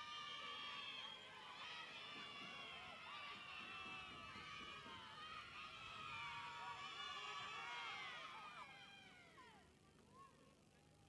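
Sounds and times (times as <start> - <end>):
crowd shouting and cheering: 0.0 - 9.7.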